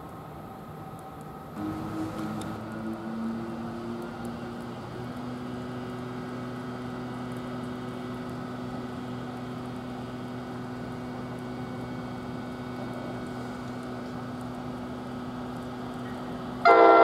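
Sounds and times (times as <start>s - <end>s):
electrical hum with held tones: 0.0s - 17.0s.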